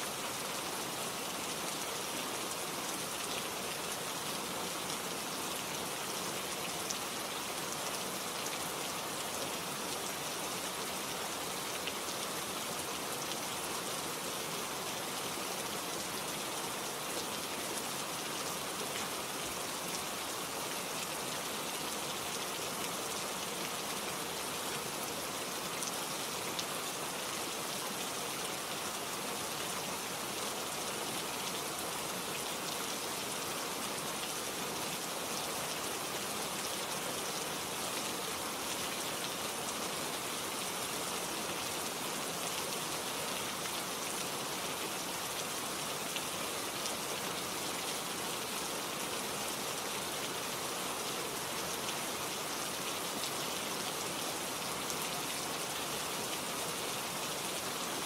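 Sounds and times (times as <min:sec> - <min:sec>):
rain on leaves: 0:00.0 - 0:58.0.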